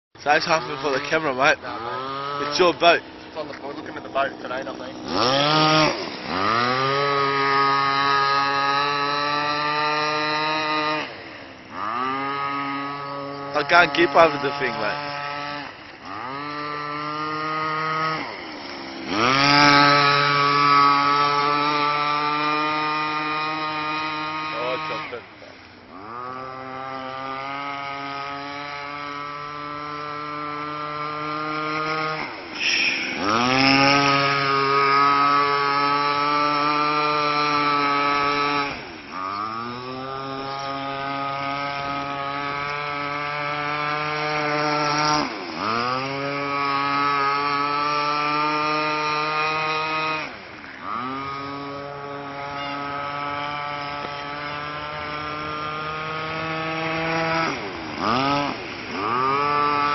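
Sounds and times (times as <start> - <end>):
two-stroke boat engine revving: 0.2 - 59.9.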